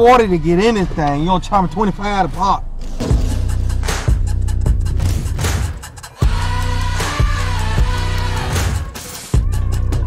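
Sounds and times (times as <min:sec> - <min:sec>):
pop music with heavy bass: 0:00.0 - 0:10.0.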